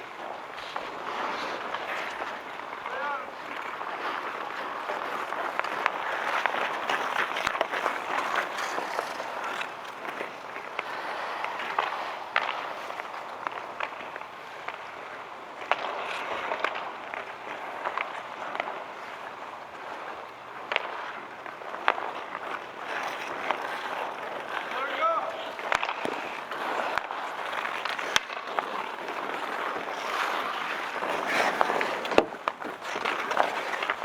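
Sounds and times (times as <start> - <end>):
hockey sticks and puck clacking: 0.0 - 34.0
skates scraping on ice: 0.0 - 34.0.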